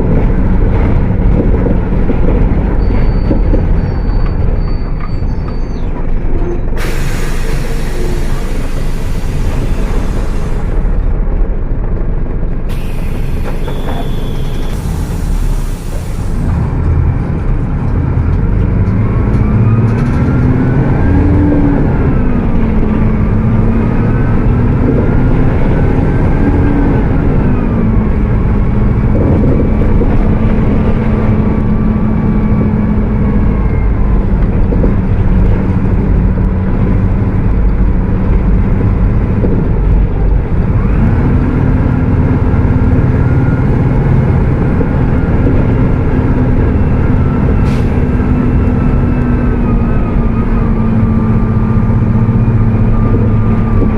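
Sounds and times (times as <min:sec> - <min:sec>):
bus engine running at high revs: 0:00.0 - 0:53.9.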